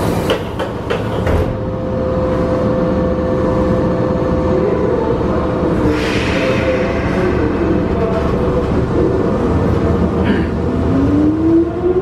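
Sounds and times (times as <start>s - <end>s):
train interior hum with tone: 0.0s - 12.0s.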